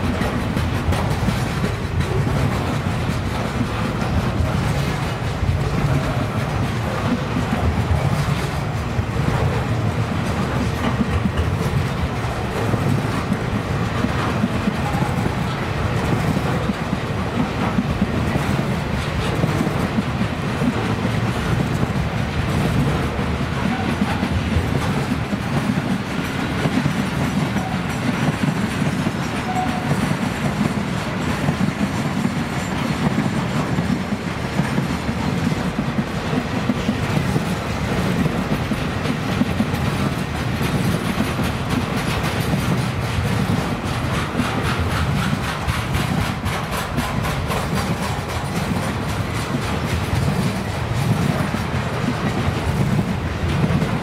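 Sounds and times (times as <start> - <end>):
freight train wheels rumbling: 0.0 - 54.0
wheels clicking over track: 0.0 - 54.0.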